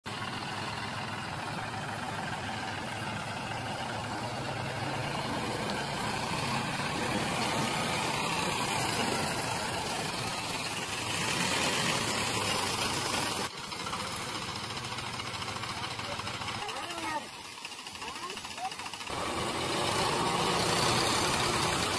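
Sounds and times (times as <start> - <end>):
tractor engines under load: 0.0 - 21.9
tractor wheels churning mud: 0.0 - 21.9.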